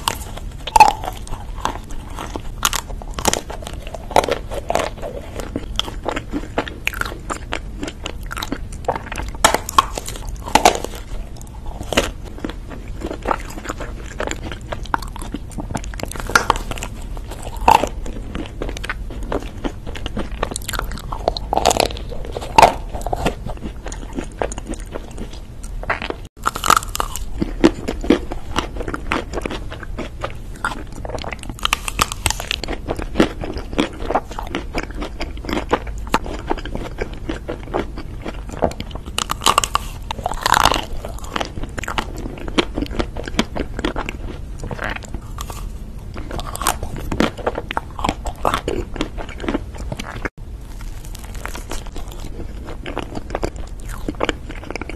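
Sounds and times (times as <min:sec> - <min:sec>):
crunchy chewing: 0:00.0 - 0:54.9.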